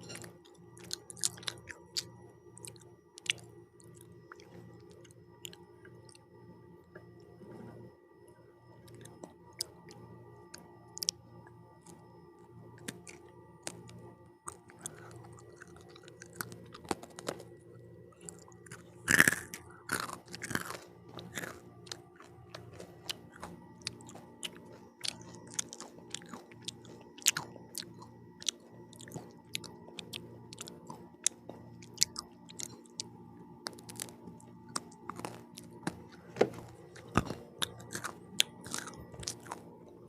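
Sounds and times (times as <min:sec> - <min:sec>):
person chewing crunchy food: 0:00.0 - 0:06.2, 0:08.8 - 0:11.2, 0:11.8 - 0:12.0, 0:12.8 - 0:40.0.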